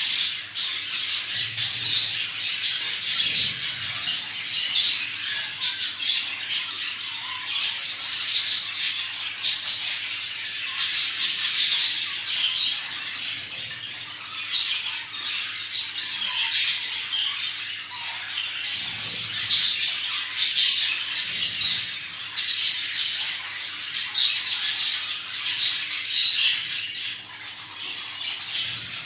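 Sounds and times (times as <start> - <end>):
budgerigars chattering and squawking: 0.0 - 29.0.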